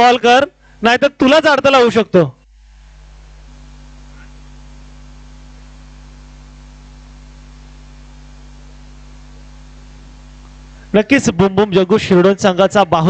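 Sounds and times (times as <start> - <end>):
electrical mains hum: 0.0 - 13.0
sound system hiss: 0.0 - 13.0.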